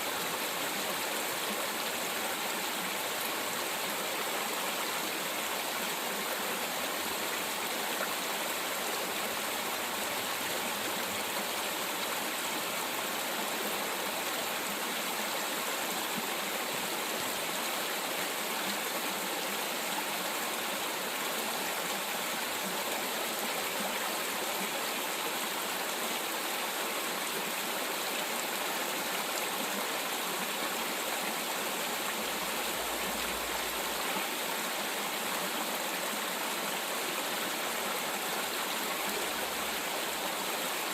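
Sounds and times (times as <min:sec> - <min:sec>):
stream rushing water: 0:00.0 - 0:40.9.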